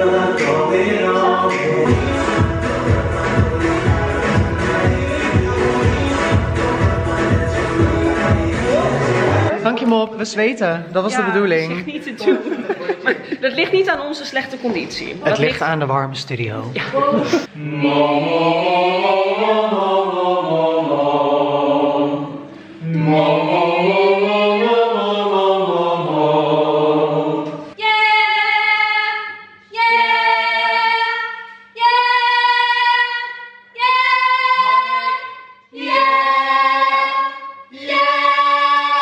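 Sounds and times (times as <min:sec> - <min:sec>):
group singing vocal warm-ups: 0:00.0 - 0:09.6, 0:16.9 - 0:39.0.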